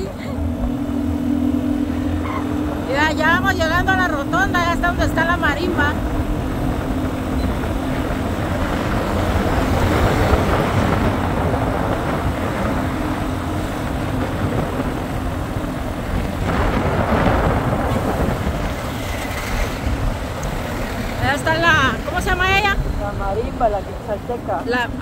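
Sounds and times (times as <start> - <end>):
car engine hum: 0.0 - 25.0
road noise: 0.0 - 25.0.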